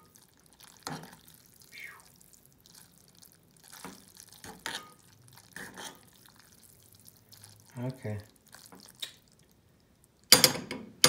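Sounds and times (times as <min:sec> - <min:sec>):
noodles squelching in a pan: 0:00.0 - 0:10.3.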